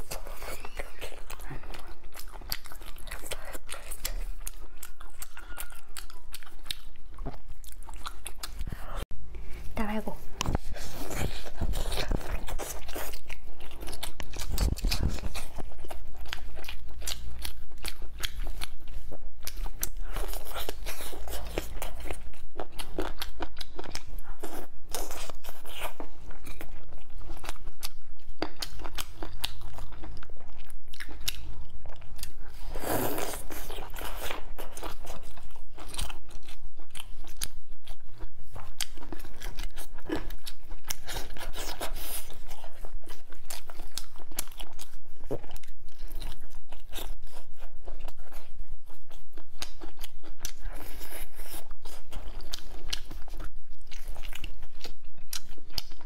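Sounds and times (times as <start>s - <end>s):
person chewing meat: 0.0s - 9.5s, 10.3s - 56.0s.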